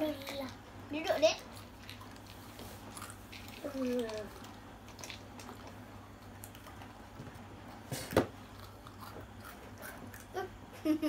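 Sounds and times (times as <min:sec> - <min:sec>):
children chewing snacks: 0:00.1 - 0:07.1, 0:07.7 - 0:11.0.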